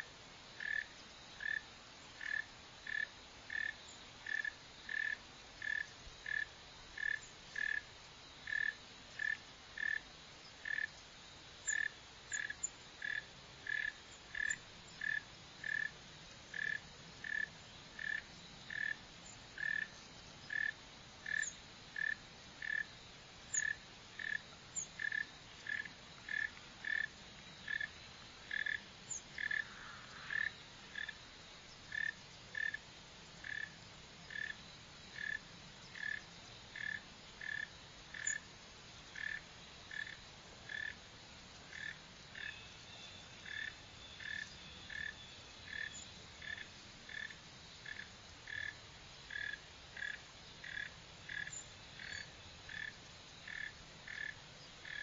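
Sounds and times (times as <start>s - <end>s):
mole cricket chirping: 0.0s - 55.0s.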